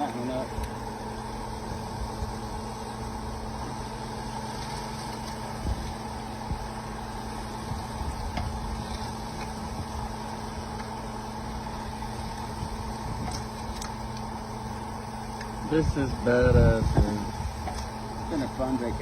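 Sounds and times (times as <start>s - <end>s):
rig engines droning: 0.0s - 19.0s.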